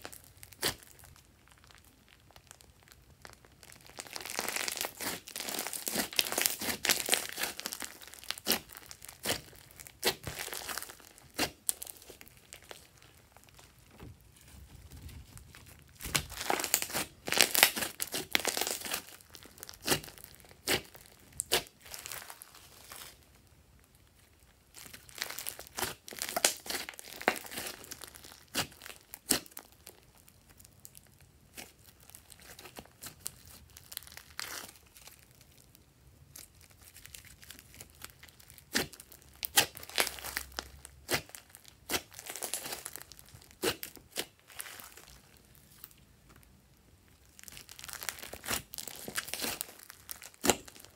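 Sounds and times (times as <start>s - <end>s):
slime crackling and popping: 0.0s - 50.9s.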